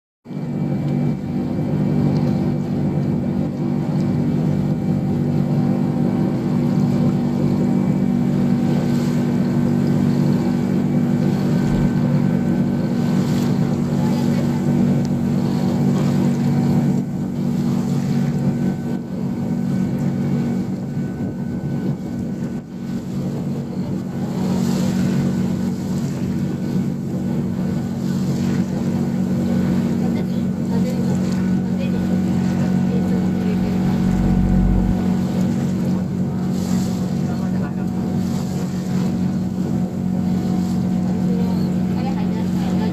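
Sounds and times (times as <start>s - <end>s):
ferry engine drone: 0.3s - 42.9s.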